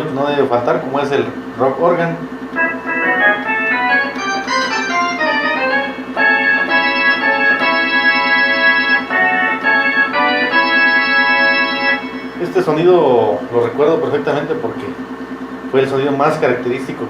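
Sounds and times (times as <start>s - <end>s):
synthesizer organ chords: 0.0s - 16.9s.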